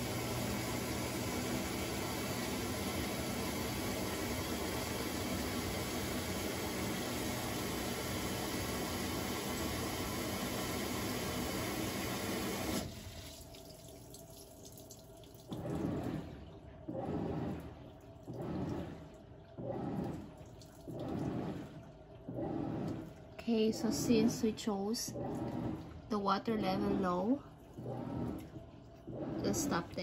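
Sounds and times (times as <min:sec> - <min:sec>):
washer agitating swish: 0:00.0 - 0:30.0
water pouring into tub: 0:00.0 - 0:30.0.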